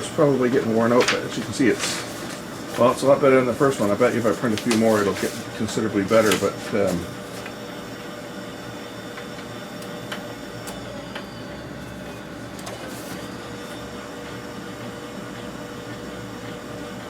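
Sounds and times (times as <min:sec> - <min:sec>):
laser printer whirring: 0:00.0 - 0:17.0.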